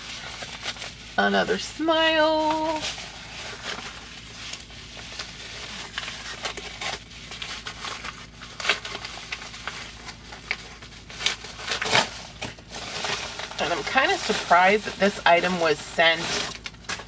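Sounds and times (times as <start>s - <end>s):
paper mailer crinkling and tearing: 0.0s - 17.0s.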